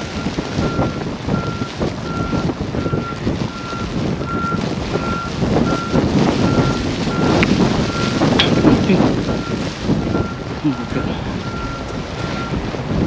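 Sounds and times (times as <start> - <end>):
low rumbling noise: 0.0 - 13.0
vehicle reversing alarm beeping: 0.1 - 13.0.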